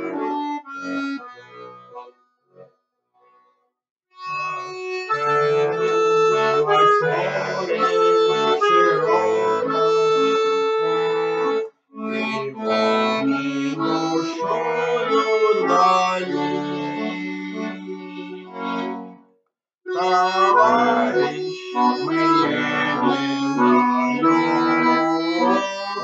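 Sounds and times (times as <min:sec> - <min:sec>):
button accordion melody: 0:00.0 - 0:02.6, 0:04.2 - 0:19.3, 0:19.9 - 0:26.0.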